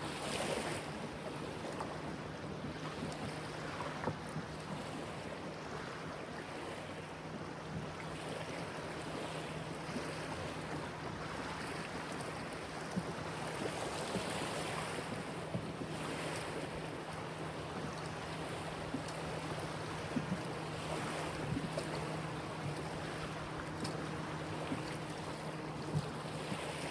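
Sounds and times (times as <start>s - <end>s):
river water lapping and flowing: 0.0s - 26.9s
wind: 0.0s - 26.9s.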